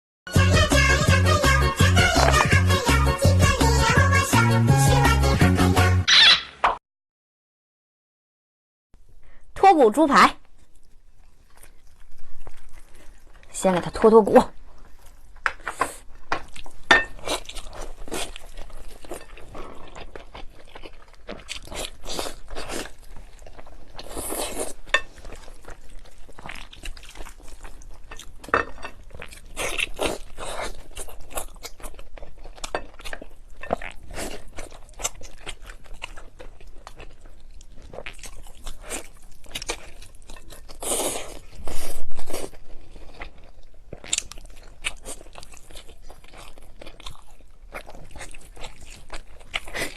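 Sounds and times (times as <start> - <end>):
crunching and chewing pork: 1.8 - 3.4, 10.4 - 49.9.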